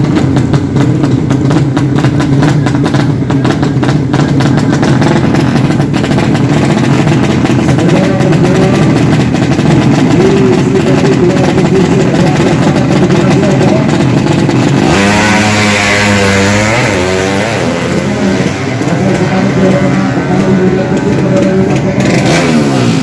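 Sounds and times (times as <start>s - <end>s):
racing motorcycle engines: 0.0s - 23.0s.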